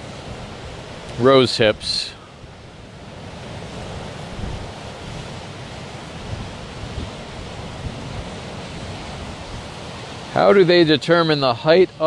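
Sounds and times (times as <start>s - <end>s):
wind buffeting microphone: 0.0s - 10.6s
rushing wind: 0.0s - 12.0s
surf: 0.0s - 12.0s.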